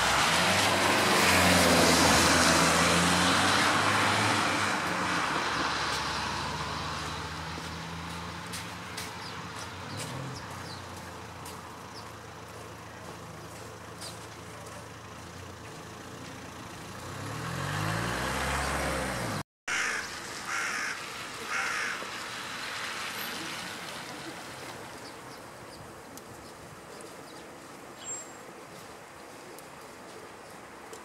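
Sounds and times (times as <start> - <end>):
vehicle passing: 0.0 - 25.2
road traffic hum: 0.0 - 31.0.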